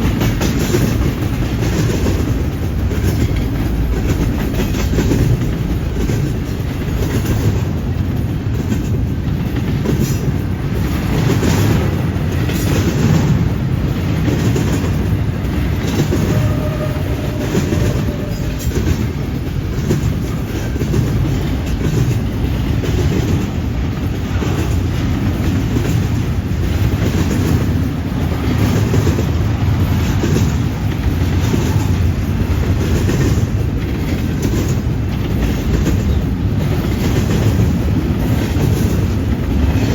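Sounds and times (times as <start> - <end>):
freight train rumbling past: 0.0 - 39.9
wheels clacking over rail joints: 0.0 - 39.9.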